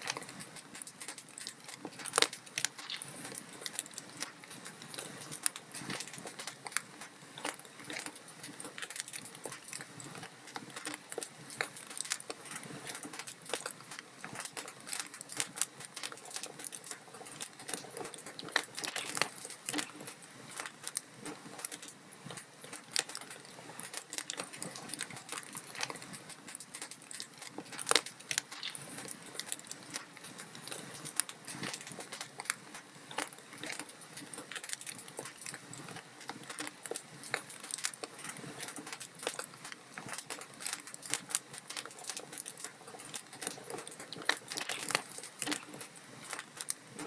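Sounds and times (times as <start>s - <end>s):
log fire crackling: 0.0s - 47.0s.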